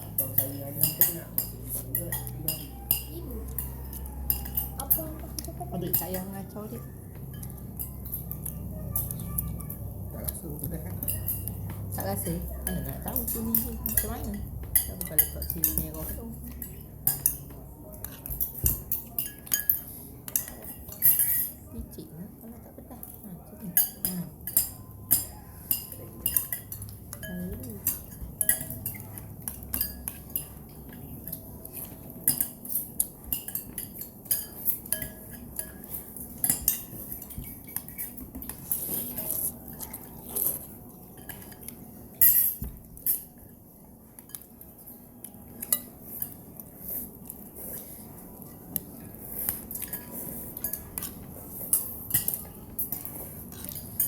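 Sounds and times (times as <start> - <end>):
cutlery clinking against a bowl: 0.0 - 22.0, 22.9 - 54.0.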